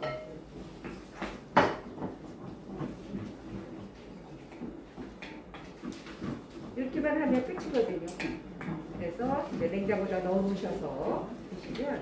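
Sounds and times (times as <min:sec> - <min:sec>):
wooden spatula scraping and stirring: 0:00.0 - 0:12.0.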